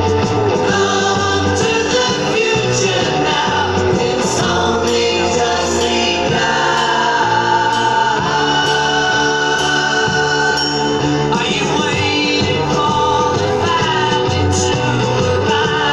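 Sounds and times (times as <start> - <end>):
christmas song over loudspeakers: 0.0 - 15.9
group of voices singing: 0.0 - 15.9.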